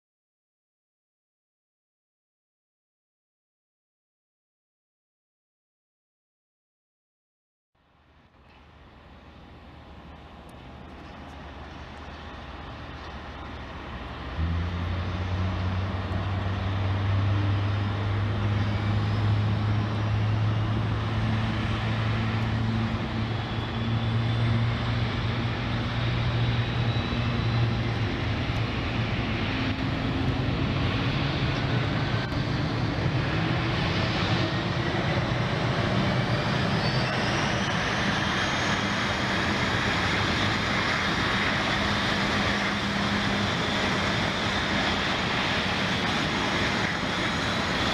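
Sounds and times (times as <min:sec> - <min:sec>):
jet engines rumbling: 0:07.9 - 0:47.9
rising engine whine: 0:08.0 - 0:47.9.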